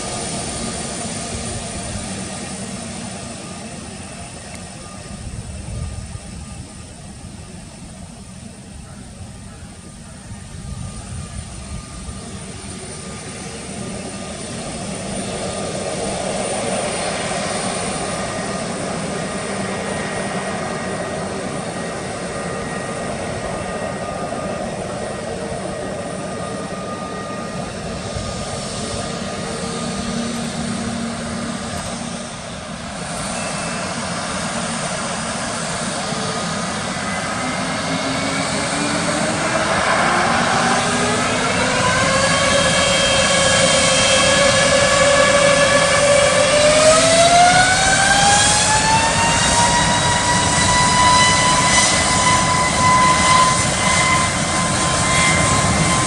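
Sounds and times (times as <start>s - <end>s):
airliner engines at takeoff power: 0.0s - 56.0s
thin whining tones: 0.0s - 56.0s.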